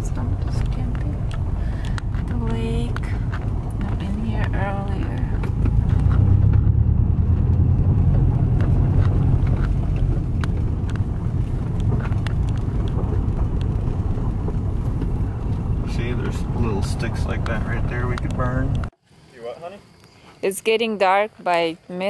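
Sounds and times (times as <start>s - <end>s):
tyres rumbling on gravel: 0.0s - 19.6s.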